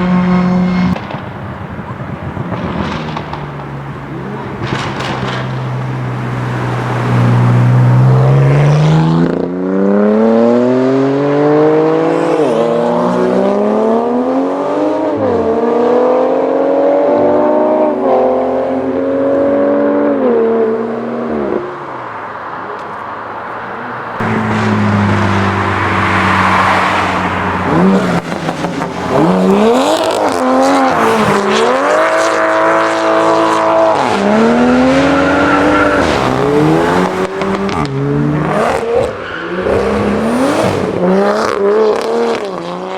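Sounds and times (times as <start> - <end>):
car engine accelerating and revving: 2.4 - 21.8, 22.8 - 42.9.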